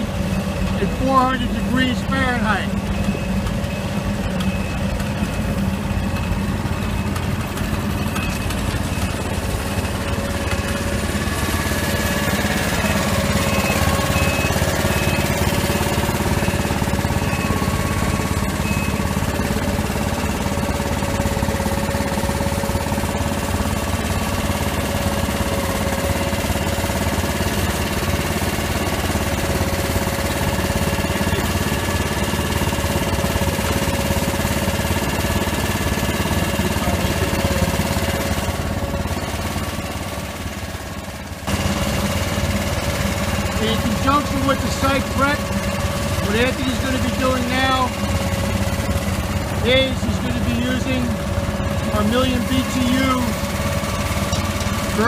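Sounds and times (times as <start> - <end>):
asphalt mixer engine drone: 0.0 - 55.0.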